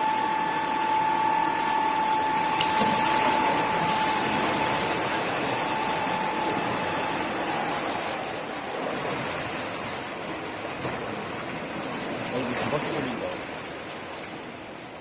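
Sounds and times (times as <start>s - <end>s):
loud mechanical noise: 0.0s - 13.1s
high whine: 0.0s - 13.8s.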